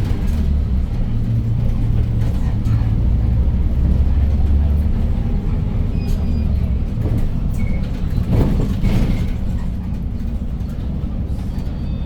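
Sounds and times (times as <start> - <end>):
bus engine and tyres rumbling: 0.0 - 12.0.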